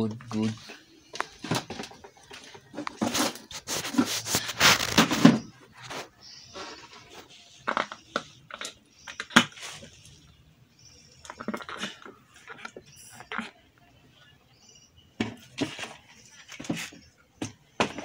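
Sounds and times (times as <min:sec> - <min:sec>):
rustling and scraping in basins: 0:00.0 - 0:13.8, 0:15.2 - 0:18.0.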